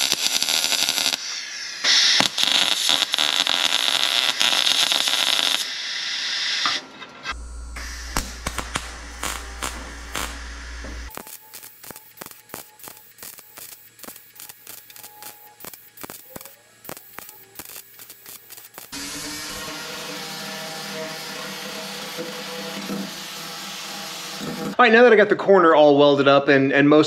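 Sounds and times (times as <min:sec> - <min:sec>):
welder crackling hiss: 0:00.0 - 0:24.8.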